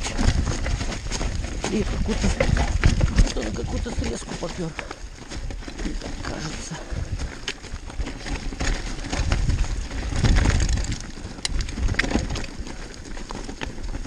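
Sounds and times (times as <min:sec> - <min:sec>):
bike clattering over stones: 0:00.0 - 0:14.0
wind rumbling on microphone: 0:00.0 - 0:14.0.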